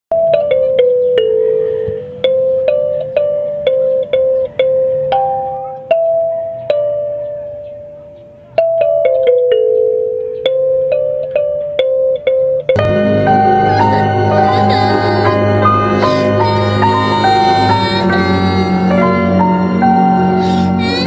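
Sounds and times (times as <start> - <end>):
bell-like notes melody: 0.1 - 21.0.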